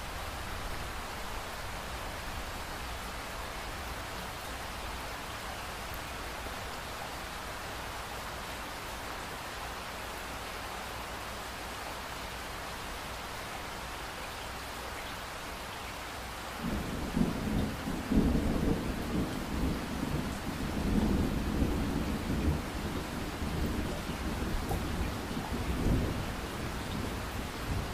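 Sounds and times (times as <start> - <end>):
rain hiss: 0.0 - 27.9.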